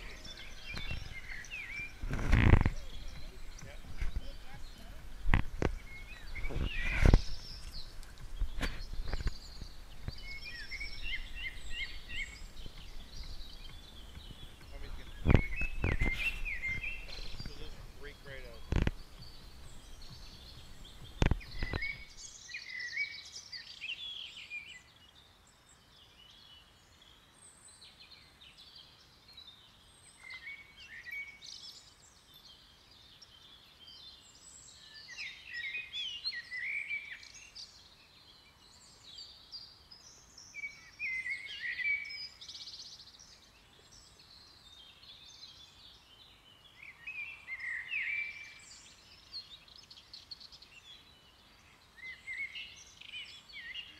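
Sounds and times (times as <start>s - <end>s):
birds chirping: 0.0s - 53.9s
faint outdoor hiss: 0.0s - 53.9s.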